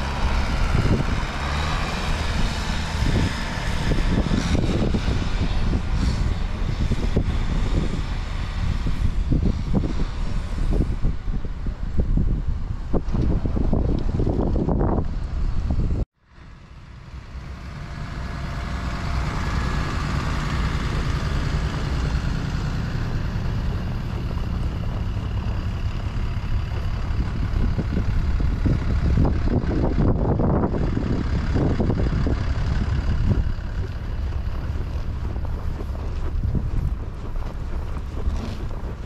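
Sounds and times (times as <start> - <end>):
bus engine idling: 0.0 - 39.0.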